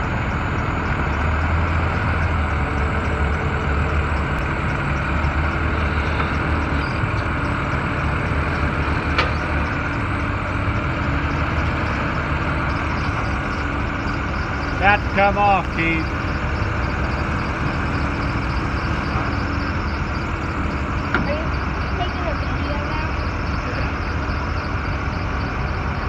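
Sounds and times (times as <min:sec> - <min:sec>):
pickup truck engine rumbling: 0:00.0 - 0:26.0.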